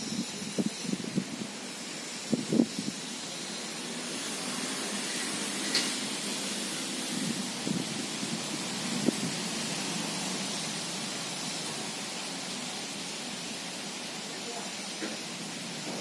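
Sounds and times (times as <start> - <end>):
rain falling on a pond: 3.1 - 16.0.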